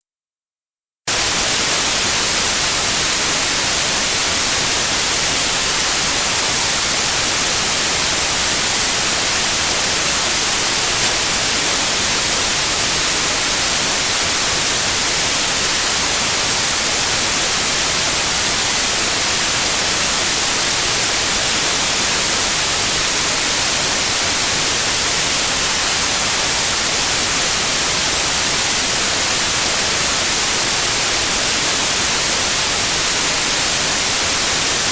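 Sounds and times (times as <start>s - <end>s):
high-pitched pure tone: 1.0s - 34.9s
white noise: 1.1s - 34.9s.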